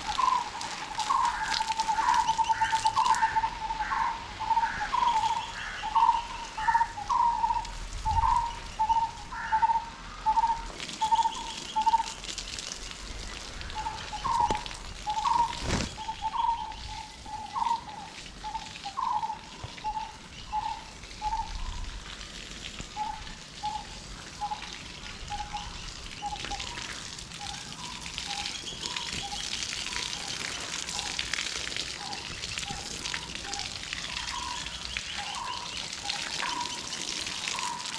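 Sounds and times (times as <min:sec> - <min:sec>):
garden hose spraying water: 0:00.0 - 0:37.9.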